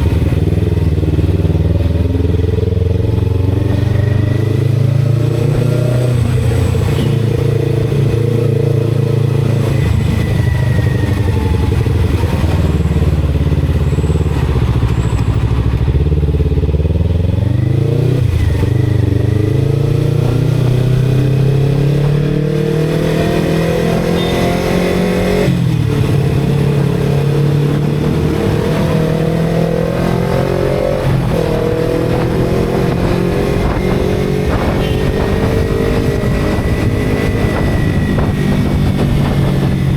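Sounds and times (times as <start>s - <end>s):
motorcycle engine running: 0.0s - 5.3s, 6.0s - 39.9s.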